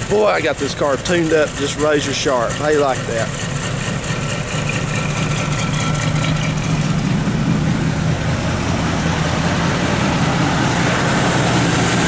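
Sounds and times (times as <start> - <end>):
car engine idling unevenly: 0.0 - 12.0.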